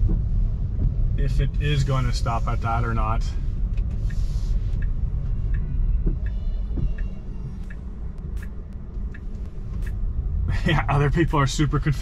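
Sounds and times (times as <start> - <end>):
road and tyre rumble: 0.0 - 12.0
turn signal ticking: 0.0 - 12.0.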